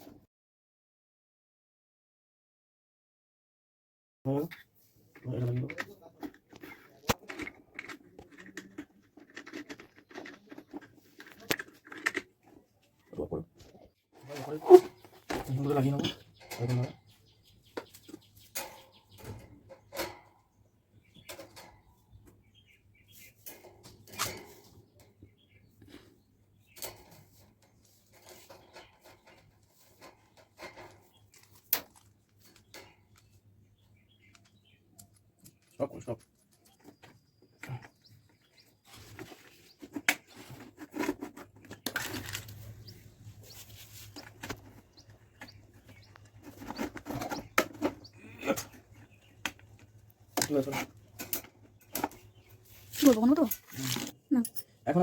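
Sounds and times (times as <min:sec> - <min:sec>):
plastic parts clicking and scraping: 0:04.5 - 0:13.0, 0:13.6 - 0:20.5, 0:23.2 - 0:54.2.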